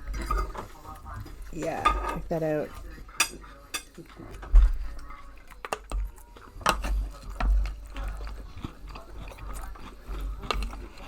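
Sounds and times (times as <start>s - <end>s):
dishes and utensils clinking: 0.0s - 11.0s.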